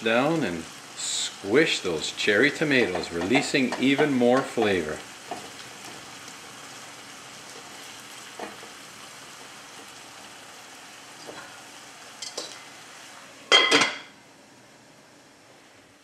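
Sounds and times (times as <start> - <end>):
onions sizzling in a frying pan: 0.0 - 16.0.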